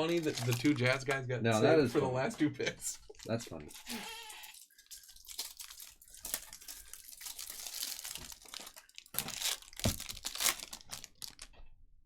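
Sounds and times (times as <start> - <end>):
plastic packaging crinkling: 0.0 - 1.3, 3.0 - 11.6.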